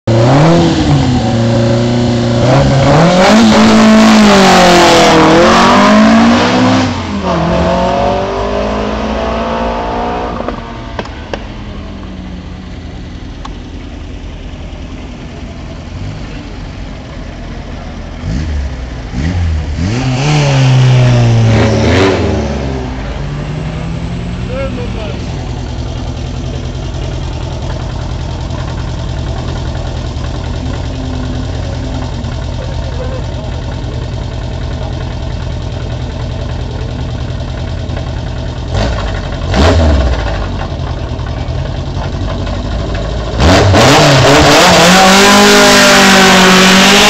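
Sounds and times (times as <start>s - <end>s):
car engine revving: 0.0s - 47.0s
second car revving loudly: 0.1s - 11.4s, 18.0s - 36.5s, 37.4s - 47.0s
car pulling away: 0.1s - 47.0s.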